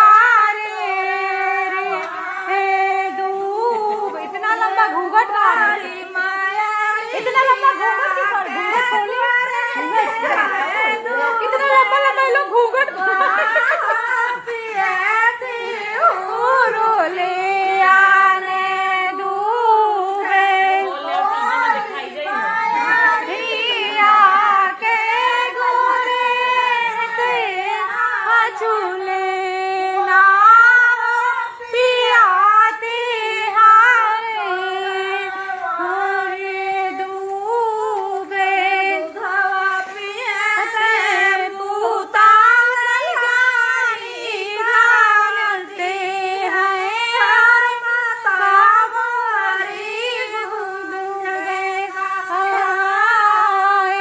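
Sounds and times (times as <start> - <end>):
women singing in unison: 0.0 - 54.0.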